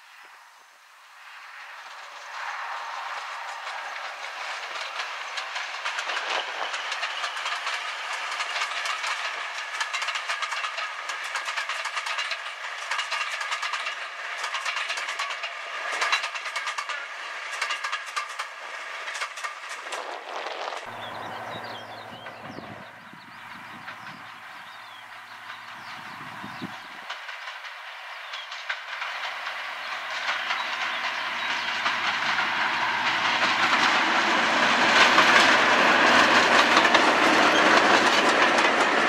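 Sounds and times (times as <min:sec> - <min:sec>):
train running gear rumble: 0:01.1 - 0:39.0
wheels clicking over rail joints: 0:01.3 - 0:39.0.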